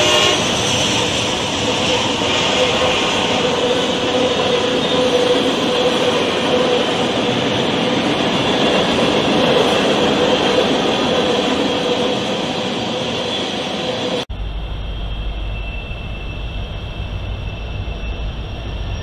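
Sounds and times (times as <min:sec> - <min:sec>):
train wheels rolling on rail: 0:00.0 - 0:19.0.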